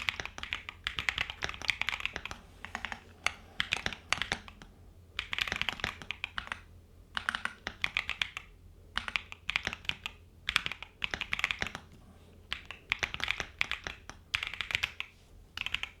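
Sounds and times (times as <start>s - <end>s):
mechanical keyboard typing: 0.0s - 11.9s, 12.5s - 16.0s.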